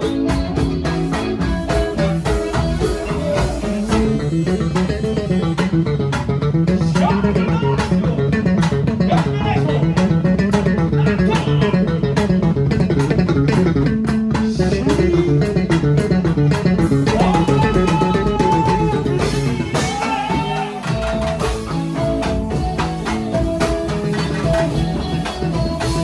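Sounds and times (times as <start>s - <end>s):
bass line: 0.0s - 26.0s
held melody notes: 0.0s - 26.0s
plucked strings: 0.0s - 26.0s
steady percussion: 0.0s - 26.0s.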